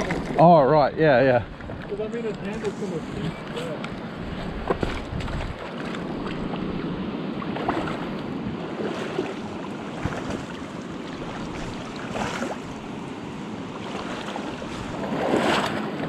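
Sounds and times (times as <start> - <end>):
river current rushing: 0.0 - 16.0
wind buffeting microphone: 0.0 - 16.0.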